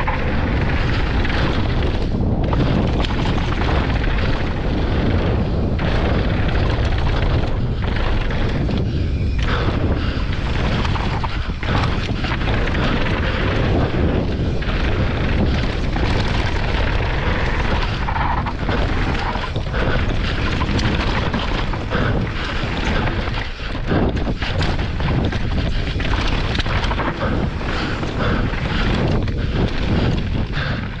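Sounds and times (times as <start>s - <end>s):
bike knocking and rattling: 0.0s - 31.0s
tyres rumbling over dirt: 0.0s - 31.0s
wind rushing over microphone: 0.0s - 31.0s.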